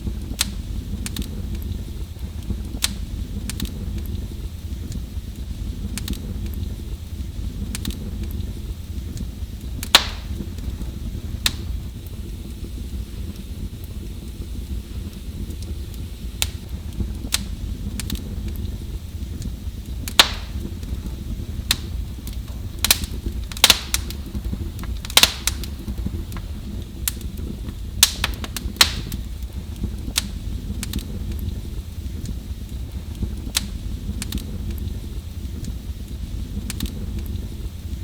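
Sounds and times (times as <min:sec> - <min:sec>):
low rumble of burning logs: 0:00.0 - 0:38.0
wood fire crackling and popping: 0:00.0 - 0:38.0.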